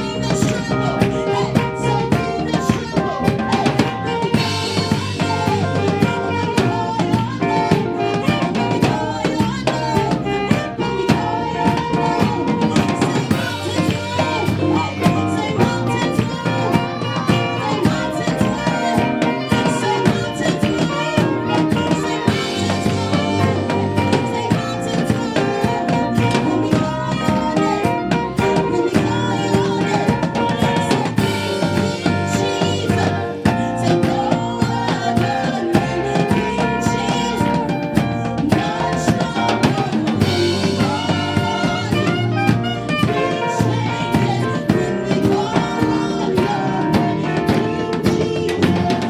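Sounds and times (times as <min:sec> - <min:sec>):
busy drum kit beat: 0:00.0 - 0:49.0
gospel band playing: 0:00.0 - 0:49.0.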